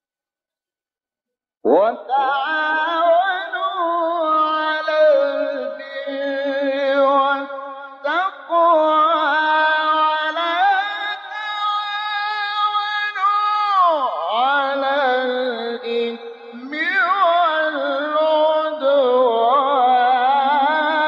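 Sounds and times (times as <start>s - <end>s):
man chanting recitation: 1.6s - 21.0s.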